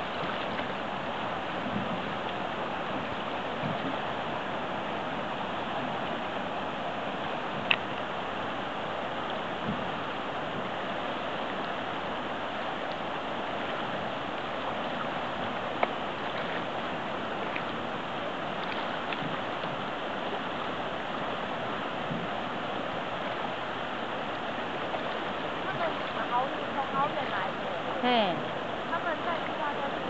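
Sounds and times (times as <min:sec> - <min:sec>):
river current rushing: 0:00.0 - 0:30.0.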